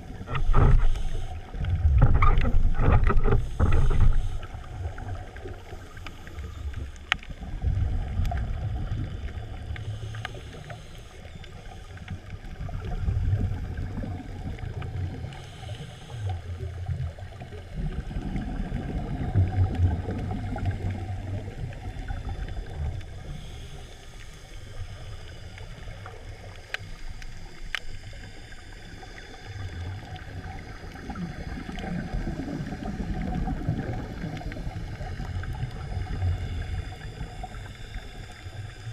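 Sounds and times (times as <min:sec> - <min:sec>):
low gurgling rumbles: 0:00.0 - 0:38.9
muffled underwater noise: 0:00.0 - 0:38.9.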